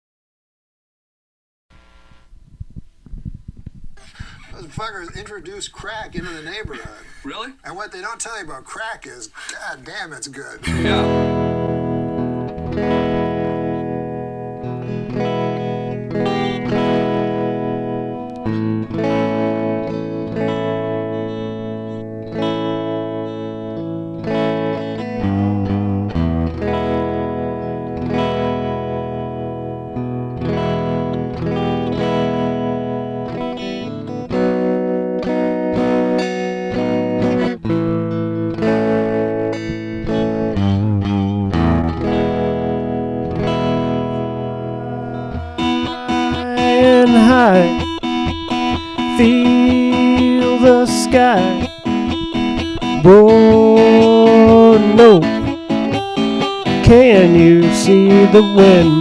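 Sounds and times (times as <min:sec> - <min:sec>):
electric guitar chords ringing: 0:10.6 - 0:59.0.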